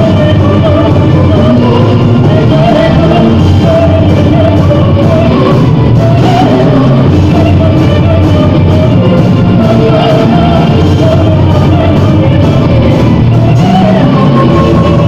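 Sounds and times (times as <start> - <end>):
metal band playing live: 0.0 - 15.0
person singing: 0.0 - 15.0.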